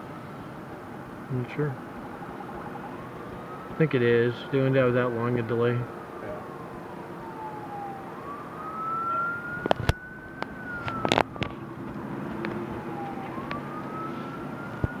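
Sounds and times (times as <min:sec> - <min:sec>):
siren wailing: 0:00.8 - 0:15.0.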